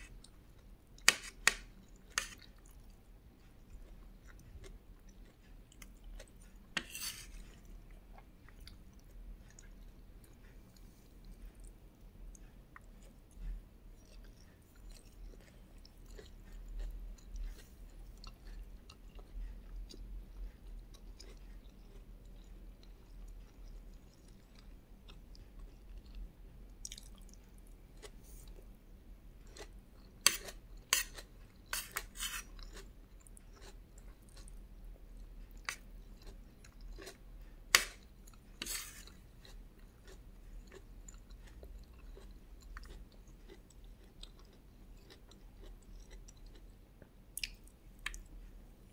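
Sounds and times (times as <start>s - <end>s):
person chewing food: 0.0s - 48.9s.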